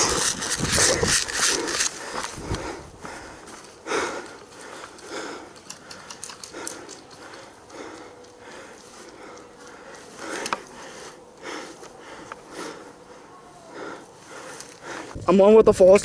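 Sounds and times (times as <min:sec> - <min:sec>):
person breathing hard: 0:00.0 - 0:15.2.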